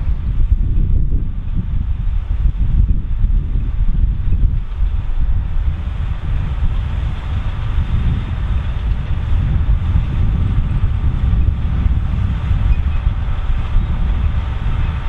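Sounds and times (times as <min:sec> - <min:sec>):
tractor and harvester rumbling: 0:00.0 - 0:15.0.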